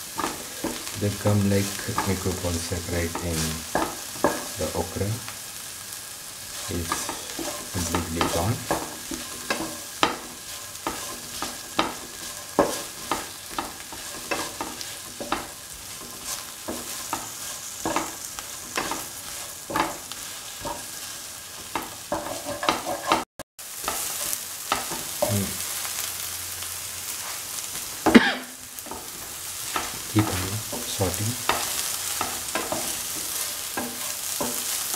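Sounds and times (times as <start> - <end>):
spatula scraping pan: 0.0 - 26.3, 27.1 - 34.9
low sizzle: 0.0 - 34.9.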